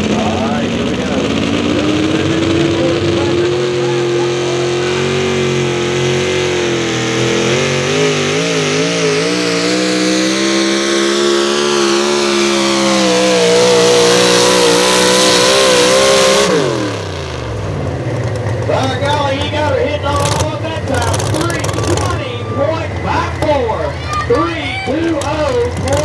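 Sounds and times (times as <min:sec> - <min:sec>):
truck engine at high revs: 0:00.0 - 0:26.0.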